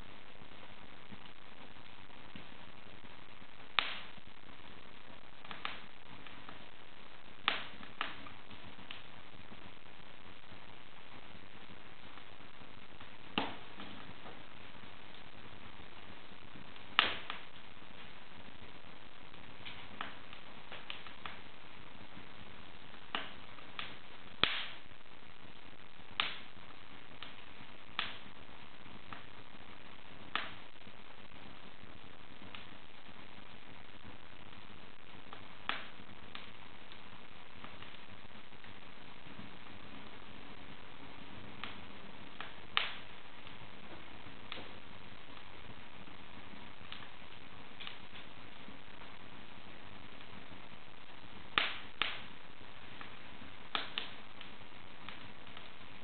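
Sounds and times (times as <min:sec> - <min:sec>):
fire pops: 0:00.0 - 0:56.0
steady hiss: 0:00.0 - 0:56.0
wood fire crackling: 0:00.0 - 0:56.0.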